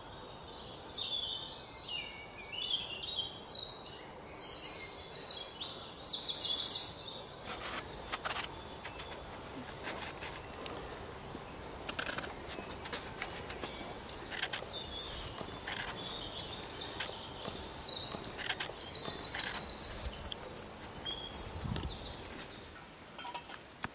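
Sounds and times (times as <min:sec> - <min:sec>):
wild birds singing: 0:00.0 - 0:23.9.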